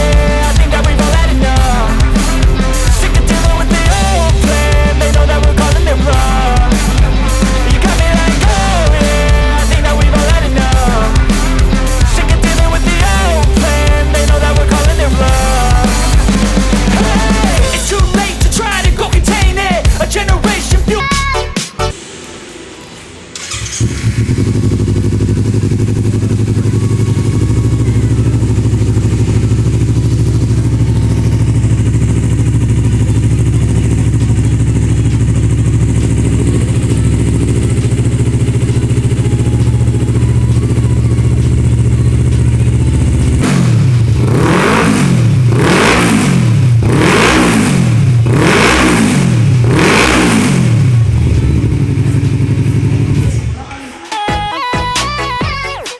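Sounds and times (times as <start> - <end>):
motorcycle engine idling and revving: 0.0 - 21.0, 22.0 - 53.8.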